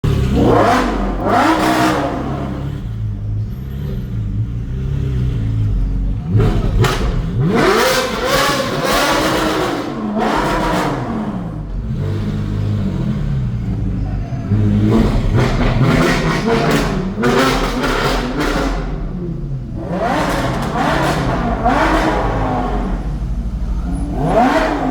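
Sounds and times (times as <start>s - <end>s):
loud sports car engine revving: 0.0s - 24.9s.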